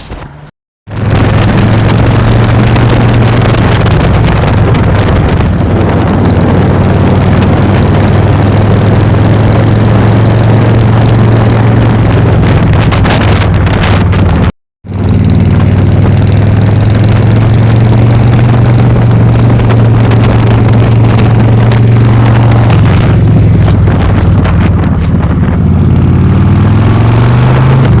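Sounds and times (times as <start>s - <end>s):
motor scooter engine running: 0.9s - 28.0s.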